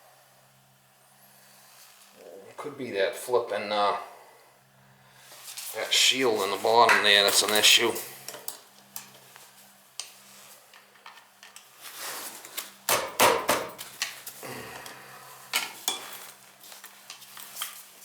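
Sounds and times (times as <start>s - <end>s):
oil burner humming: 0.0s - 18.0s.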